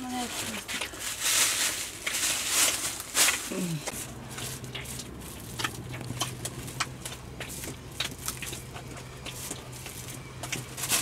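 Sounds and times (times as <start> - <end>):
steady low hum: 0.6 - 11.0.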